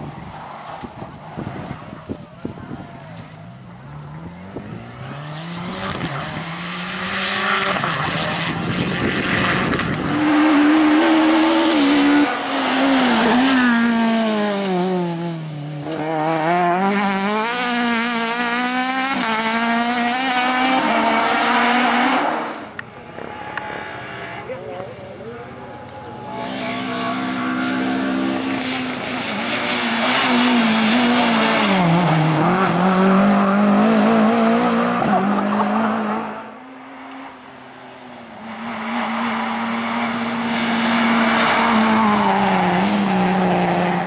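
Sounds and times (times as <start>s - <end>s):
rally car engine at full throttle: 0.0s - 44.0s.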